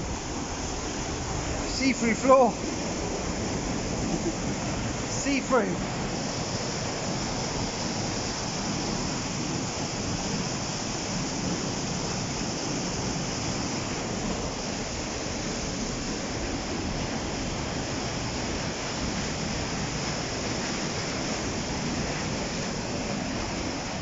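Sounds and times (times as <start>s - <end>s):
whitewater rushing through gorge: 0.0s - 24.0s.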